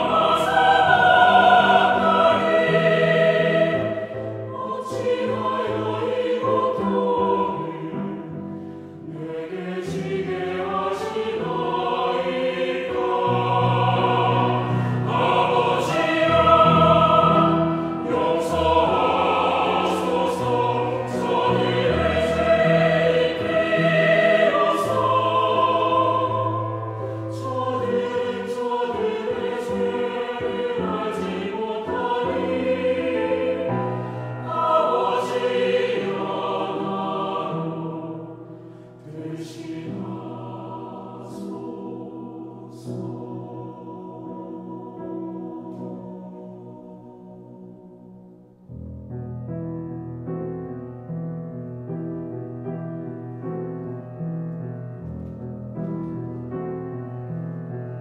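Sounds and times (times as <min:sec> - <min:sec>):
chamber choir singing: 0:00.0 - 0:48.6.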